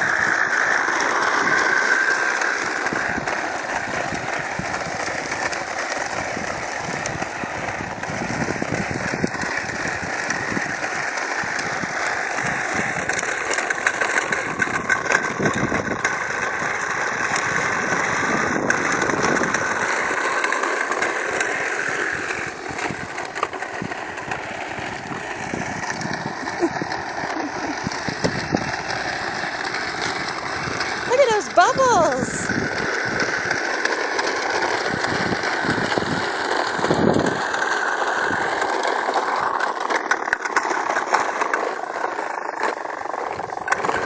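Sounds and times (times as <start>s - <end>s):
lawn mower running: 0.0s - 44.0s.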